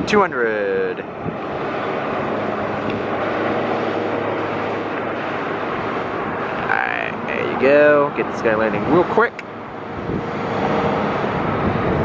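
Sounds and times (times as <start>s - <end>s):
jet engine rushing noise: 0.0s - 12.0s.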